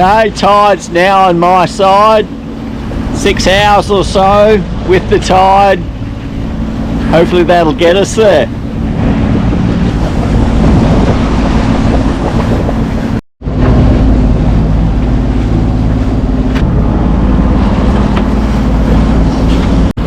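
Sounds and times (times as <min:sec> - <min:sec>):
boat engine running: 0:00.0 - 0:20.0
water noise: 0:00.0 - 0:20.0
wind: 0:00.0 - 0:20.0.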